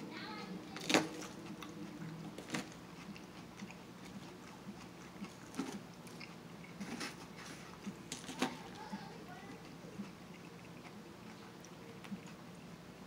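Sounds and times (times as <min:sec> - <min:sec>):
chewing and biting: 0:00.7 - 0:13.0.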